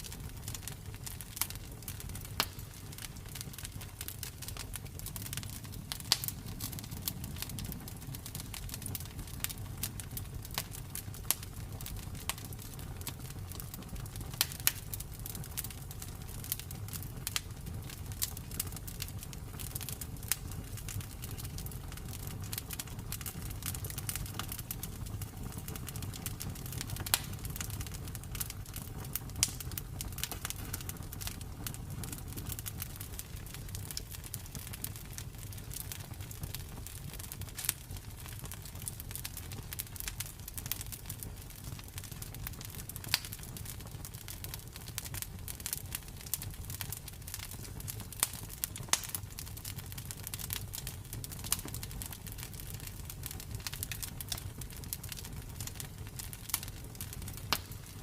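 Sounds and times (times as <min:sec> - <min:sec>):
campfire crackling: 0:00.0 - 0:58.0
campfire low rumble: 0:00.0 - 0:58.0.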